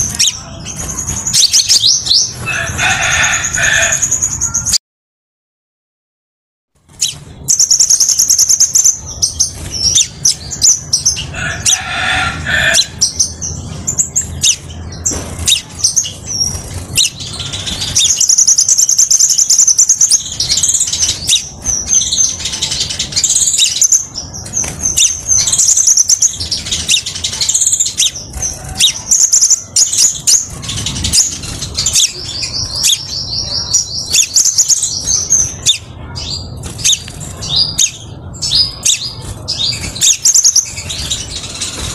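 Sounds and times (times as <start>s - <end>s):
bird twittering trills: 0.0s - 4.8s, 6.9s - 41.9s.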